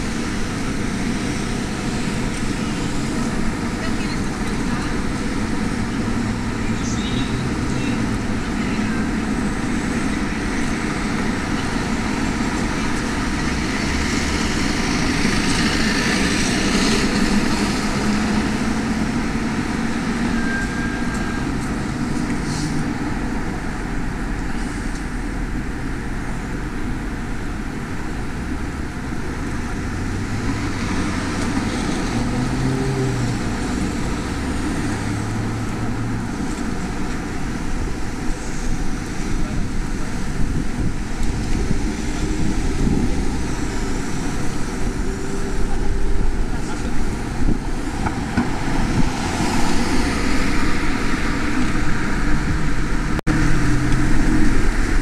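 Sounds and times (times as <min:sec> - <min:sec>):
cars passing: 0:00.0 - 0:55.0
road and wind noise: 0:00.0 - 0:55.0.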